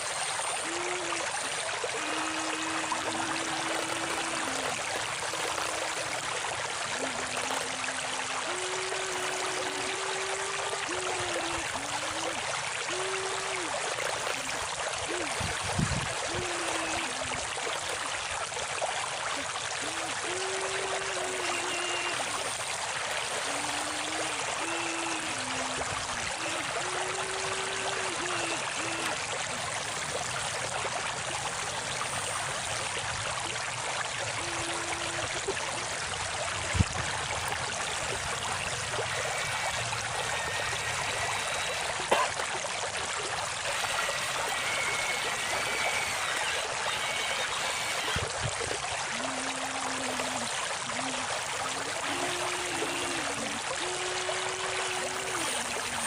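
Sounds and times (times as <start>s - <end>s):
faint humming tones: 0.0s - 56.0s
stream water flowing: 0.0s - 56.0s.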